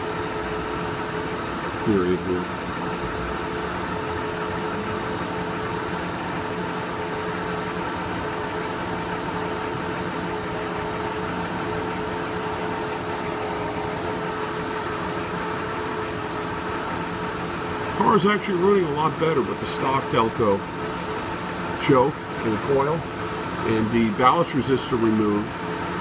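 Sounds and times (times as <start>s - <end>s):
car engine idling: 0.0s - 26.0s
steady hum: 0.0s - 26.0s.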